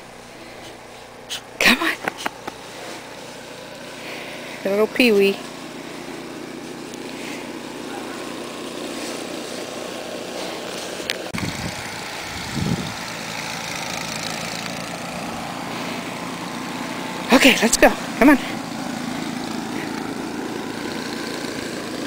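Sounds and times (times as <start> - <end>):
small motor droning: 0.0 - 22.0.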